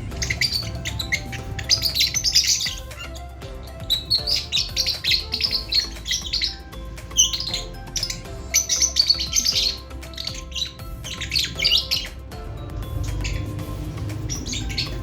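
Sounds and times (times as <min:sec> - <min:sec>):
lovebirds chirping: 0:00.0 - 0:15.0.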